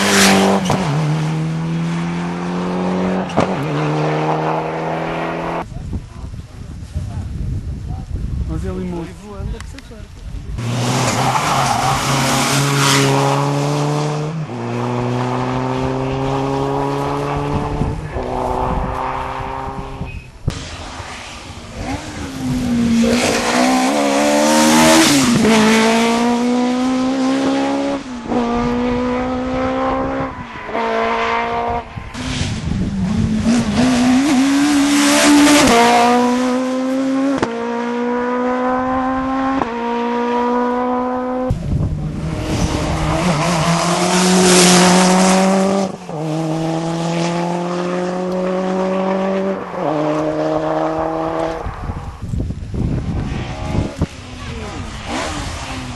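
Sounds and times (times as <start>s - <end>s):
rally car engines accelerating: 0.0s - 5.8s, 10.6s - 52.2s, 53.0s - 55.9s.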